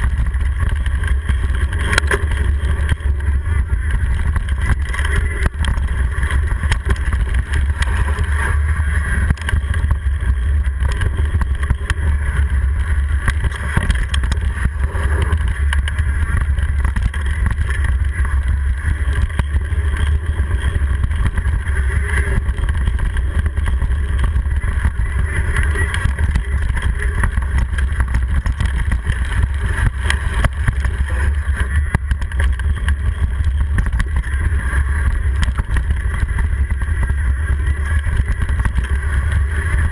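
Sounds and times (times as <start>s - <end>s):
bike knocks and rattles: 0.0s - 39.9s
trail vibration rumble: 0.0s - 39.9s
wind on microphone: 0.0s - 39.9s.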